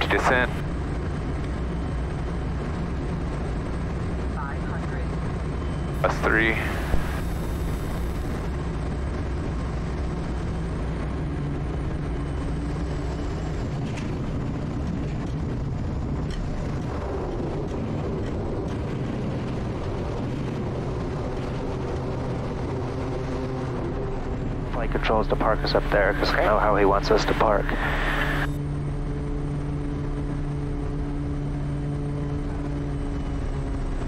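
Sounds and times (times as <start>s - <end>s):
turboprop engine droning: 0.0s - 34.0s.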